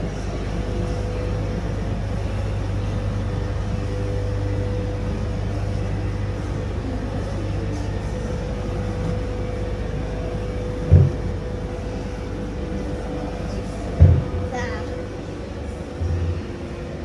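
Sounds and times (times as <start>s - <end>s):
faint constant hum: 0.0s - 17.0s.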